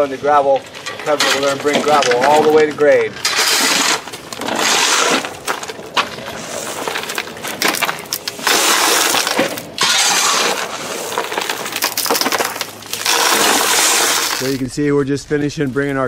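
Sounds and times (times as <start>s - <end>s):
gravel rattling onto plastic: 0.0s - 14.7s.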